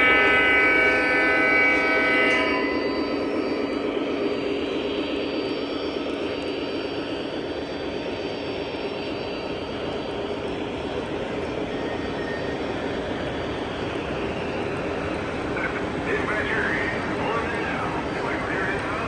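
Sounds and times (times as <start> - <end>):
model trains running: 0.0 - 19.0.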